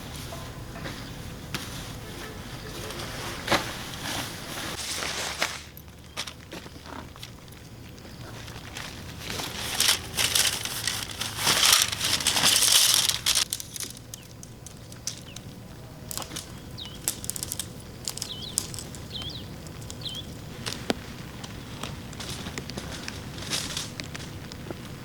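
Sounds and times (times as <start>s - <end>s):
rustling and crinkling: 0.0s - 25.0s.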